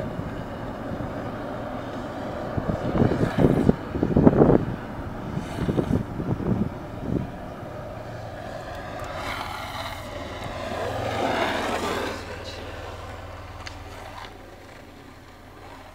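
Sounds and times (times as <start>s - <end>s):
longboard wheels rolling on asphalt: 0.0s - 15.9s.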